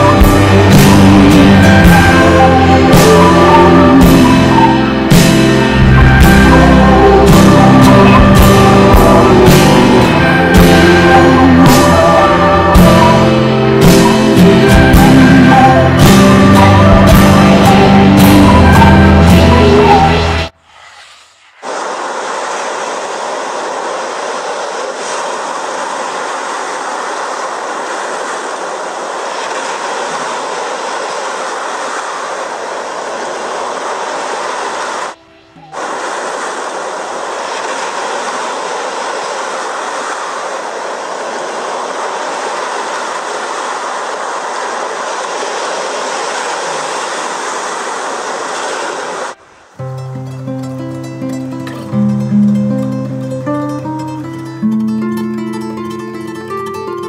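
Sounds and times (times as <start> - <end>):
rushing sea water: 0.0 - 57.0.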